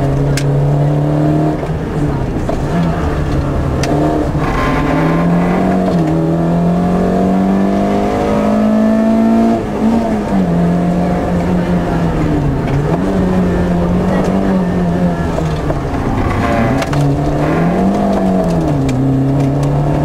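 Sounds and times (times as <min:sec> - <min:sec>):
rally car engine from inside cabin: 0:00.0 - 0:20.0.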